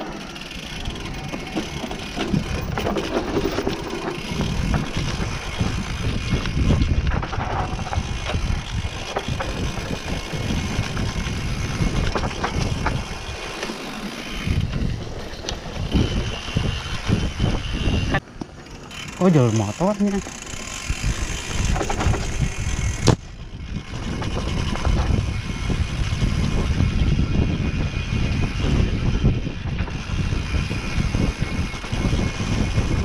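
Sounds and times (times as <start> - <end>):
bike rattling over bumps: 0.0 - 33.0
bike tyres rolling on dirt: 0.0 - 33.0.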